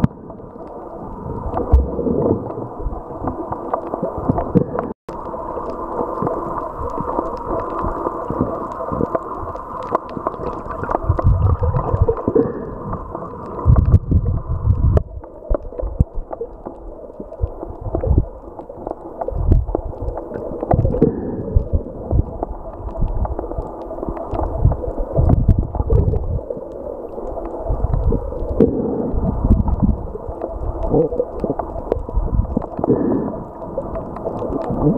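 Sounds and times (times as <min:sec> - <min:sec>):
water sloshing underwater: 0:00.0 - 0:34.9.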